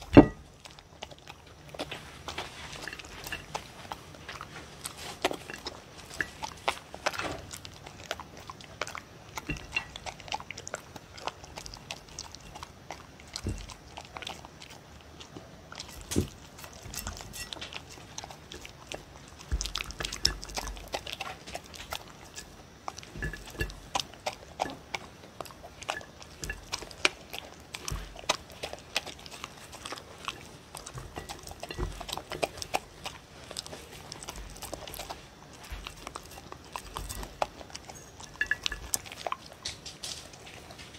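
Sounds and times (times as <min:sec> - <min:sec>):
dog crunching and chewing kibble: 0:00.0 - 0:40.9.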